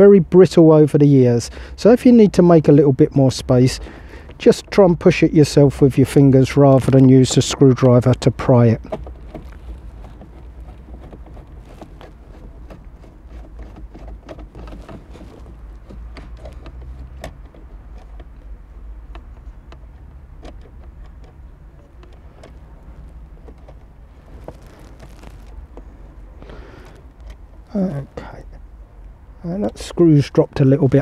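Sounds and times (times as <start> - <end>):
low steady rumble: 0.0 - 31.0.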